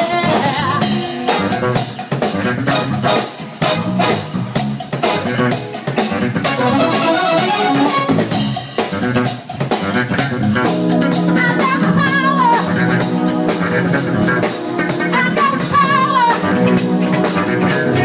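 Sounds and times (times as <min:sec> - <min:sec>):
bass drum: 0:00.0 - 0:18.0
funk band playing: 0:00.0 - 0:18.0.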